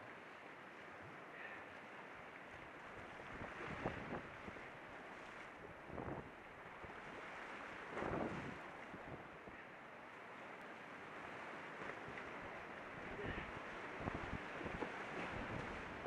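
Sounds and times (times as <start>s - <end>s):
water splashes: 0.0s - 16.0s.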